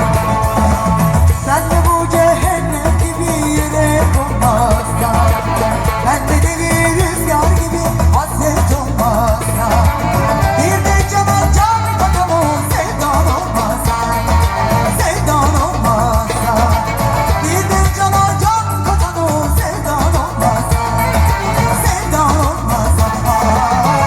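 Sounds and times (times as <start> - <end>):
ornamented singing voice: 0.0 - 24.0
repeating bass beat: 0.0 - 24.0.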